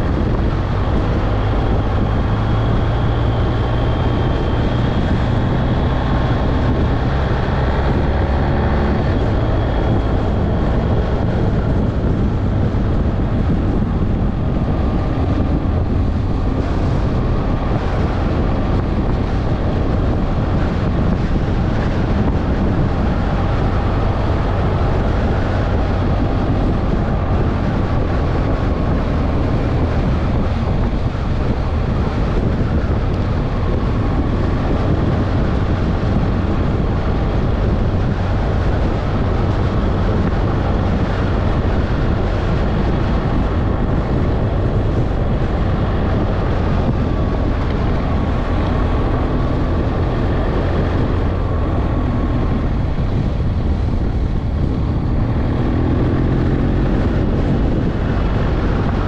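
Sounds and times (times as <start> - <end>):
motorcycle engine cruising: 0.0 - 59.0
wind noise: 0.0 - 59.0.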